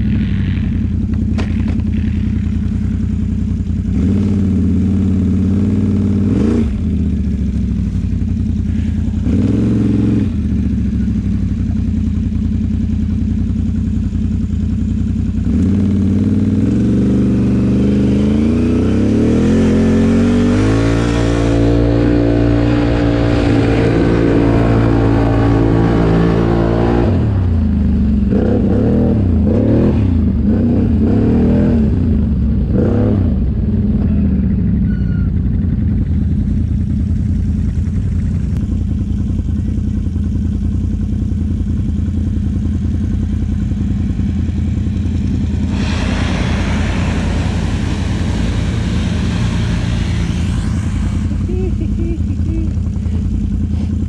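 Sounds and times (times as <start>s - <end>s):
atv engine revving: 0.0s - 11.6s, 14.6s - 54.0s.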